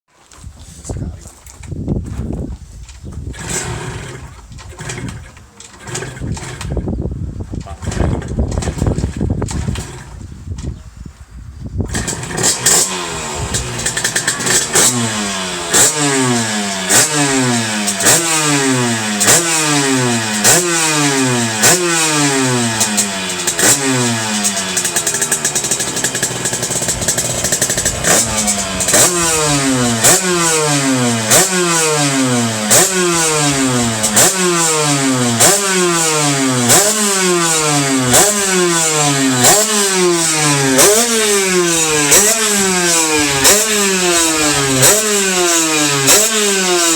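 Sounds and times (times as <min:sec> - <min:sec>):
two-stroke engine revving: 0:03.2 - 0:07.1, 0:07.7 - 0:10.2, 0:11.8 - 0:46.9.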